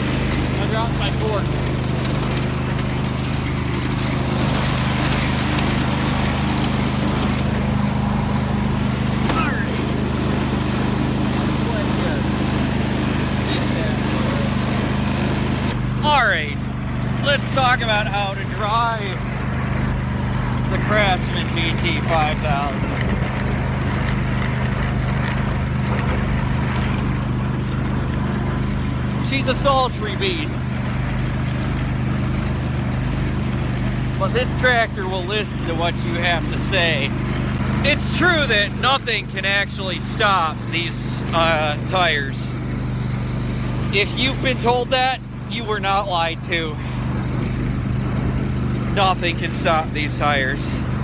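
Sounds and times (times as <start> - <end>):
garden tractor engine running: 0.0 - 51.0.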